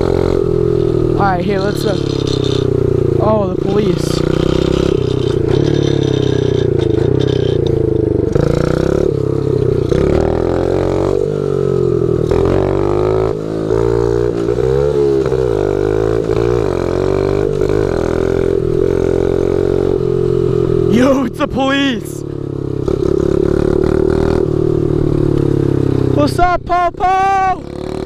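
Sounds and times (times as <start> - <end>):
small motorbike engine revving: 0.0 - 26.3, 27.6 - 28.0.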